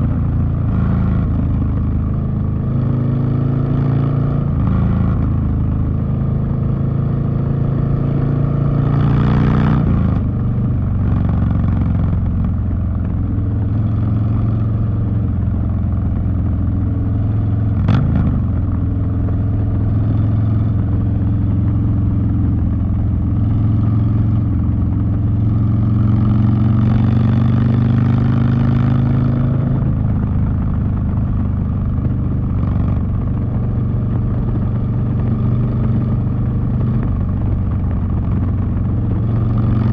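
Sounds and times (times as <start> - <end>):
motorcycle engine revving: 0.0 - 15.5, 16.3 - 39.9.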